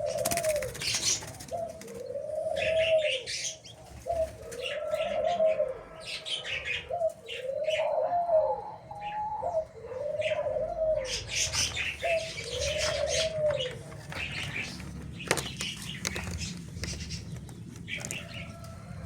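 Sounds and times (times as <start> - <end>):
dove cooing: 0.0 - 19.0
small birds chirping: 0.0 - 19.0.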